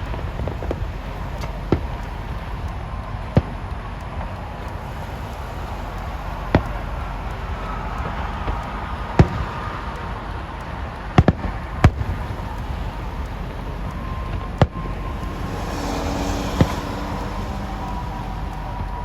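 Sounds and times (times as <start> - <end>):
background rumble: 0.0 - 19.0.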